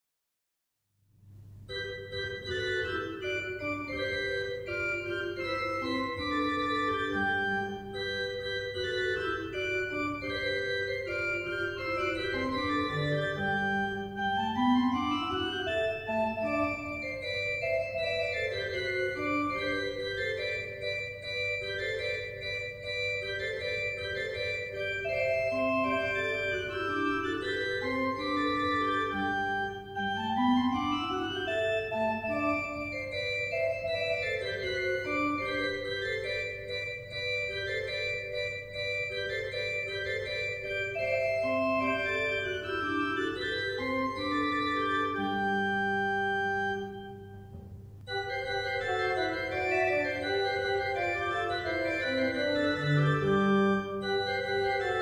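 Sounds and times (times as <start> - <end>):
pipe organ playing baroque piece: 1.7 - 55.0.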